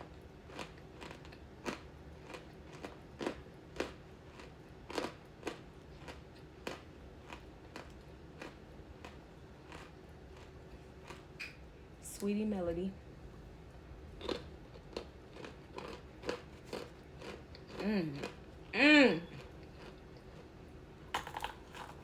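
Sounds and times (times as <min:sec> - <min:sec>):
person chewing crunchy candy: 0:00.0 - 0:11.3, 0:14.2 - 0:20.5, 0:21.2 - 0:22.0.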